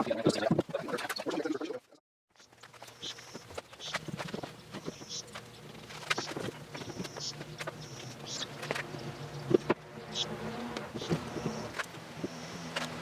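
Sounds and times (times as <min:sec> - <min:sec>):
faint low hum: 0:02.5 - 0:13.0.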